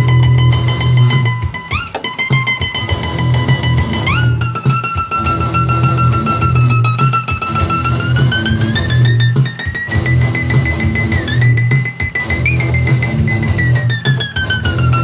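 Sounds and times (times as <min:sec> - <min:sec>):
held sliding lead note: 0:00.0 - 0:15.0
plucked strings rhythmic figure: 0:00.0 - 0:15.0.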